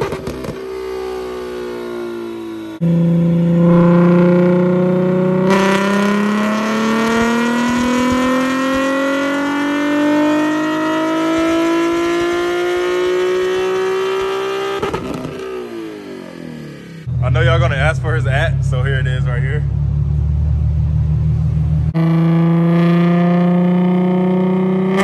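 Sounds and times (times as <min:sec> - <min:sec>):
car engine revving at full throttle: 0:00.0 - 0:25.0.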